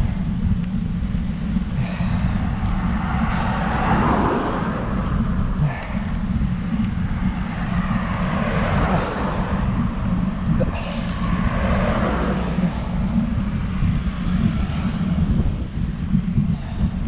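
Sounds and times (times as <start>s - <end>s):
bicycle tyre noise: 0.0s - 17.0s
wind rumbling on microphone: 0.0s - 17.0s.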